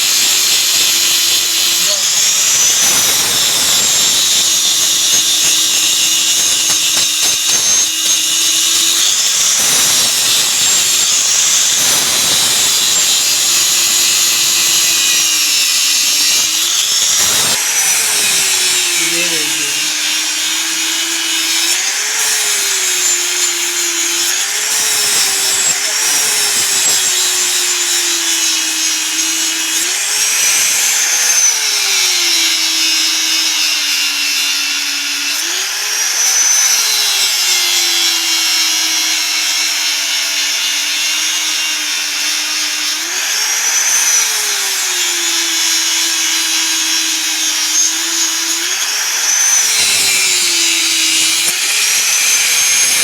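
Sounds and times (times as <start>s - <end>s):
electric grinder grinding steel: 0.0s - 53.0s
hiss of abrasive on metal: 0.0s - 53.0s.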